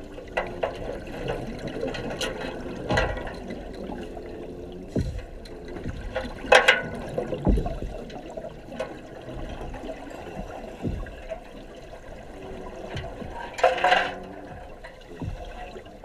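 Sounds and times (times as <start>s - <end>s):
dull low thumps: 0.0s - 16.0s
rush of bubbles: 0.0s - 16.0s
underwater bubbling and gurgling: 0.0s - 16.0s.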